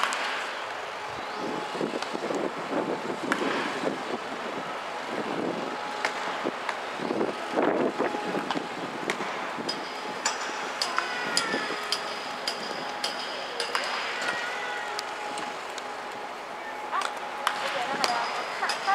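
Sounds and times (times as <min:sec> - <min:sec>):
wind buffeting microphone: 0:00.7 - 0:14.5, 0:15.1 - 0:18.9.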